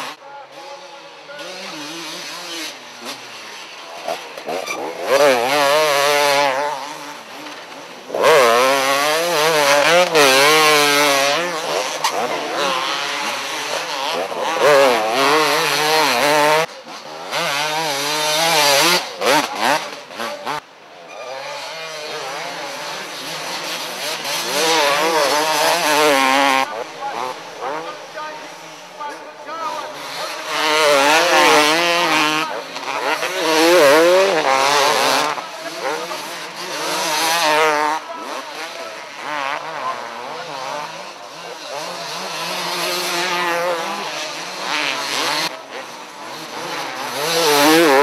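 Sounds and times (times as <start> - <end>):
motocross bikes revving past: 0.0 - 48.0.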